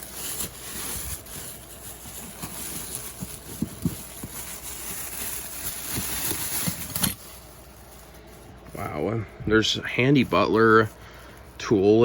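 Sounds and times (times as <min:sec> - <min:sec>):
rustling of box packing: 0:00.0 - 0:12.0.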